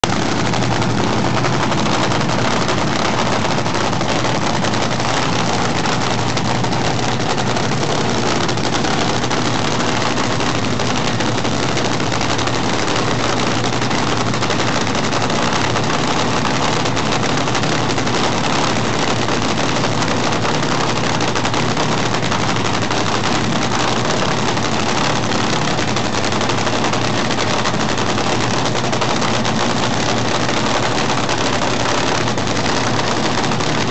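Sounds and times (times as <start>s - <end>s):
dragster engine idling loudly: 0.0s - 33.9s.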